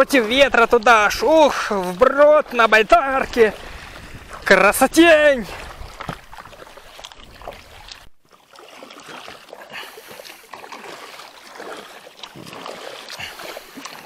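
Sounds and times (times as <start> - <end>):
paddle splashing water: 0.0 - 14.0
water dripping and lapping: 0.0 - 14.0.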